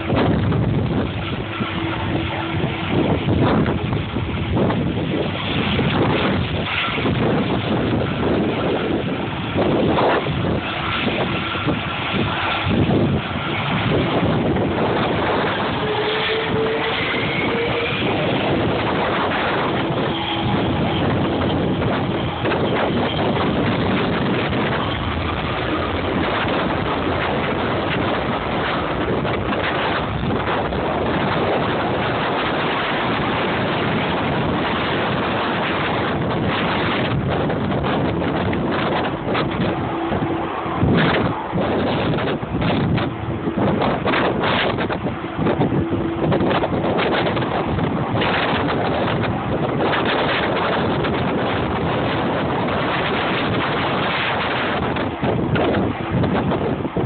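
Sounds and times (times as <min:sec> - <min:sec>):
jet engines at takeoff thrust: 0:00.0 - 0:57.0
wind buffeting microphone: 0:00.0 - 0:57.0.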